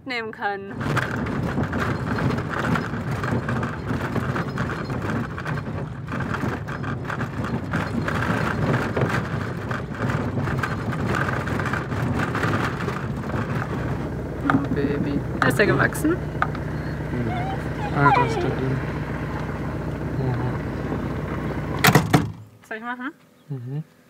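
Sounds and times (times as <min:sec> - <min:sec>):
van engine and road rumble: 0:00.0 - 0:24.0
constant rattling: 0:00.1 - 0:22.7.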